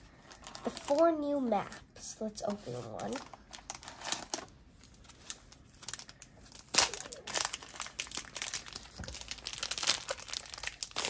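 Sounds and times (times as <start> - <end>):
plastic wrapping crinkling: 0.0 - 1.3, 2.5 - 11.0.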